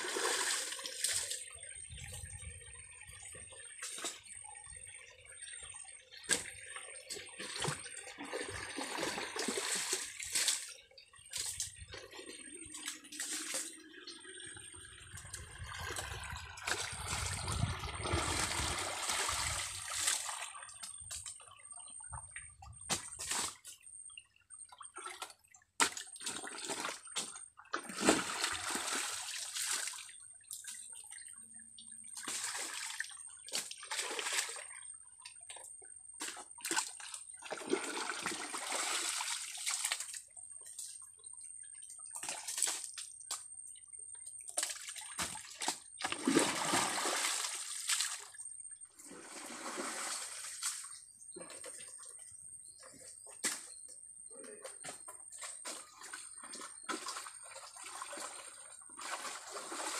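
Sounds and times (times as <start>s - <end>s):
water sloshing and splashing: 0.0s - 53.9s, 54.7s - 59.9s.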